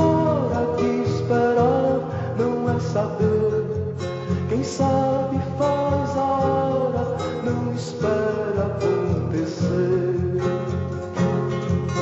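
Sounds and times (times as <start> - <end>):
person singing: 0.0 - 10.7
strummed acoustic guitar: 0.0 - 12.0.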